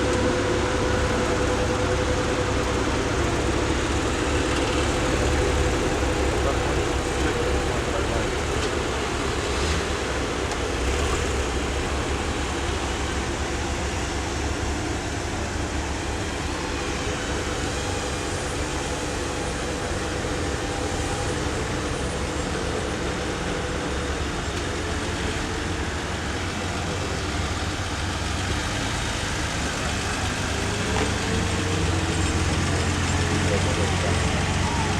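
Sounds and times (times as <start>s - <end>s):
vehicle engine rumbling: 0.0s - 34.9s.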